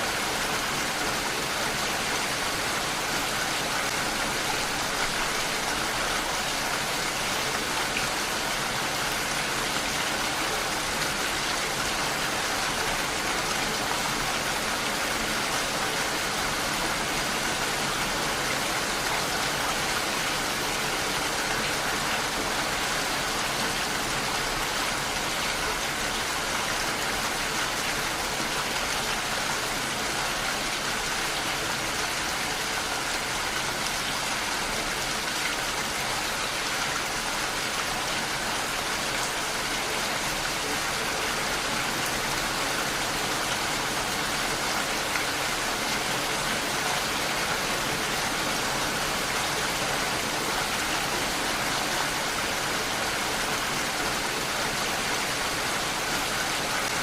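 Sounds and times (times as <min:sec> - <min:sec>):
steady rainfall hiss: 0:00.0 - 0:57.0.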